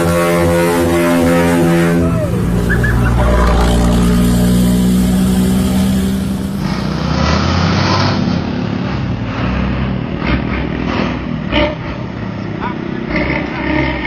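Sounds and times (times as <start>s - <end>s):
bus engine droning: 0.0s - 14.0s
rough engine rumble: 0.0s - 14.0s.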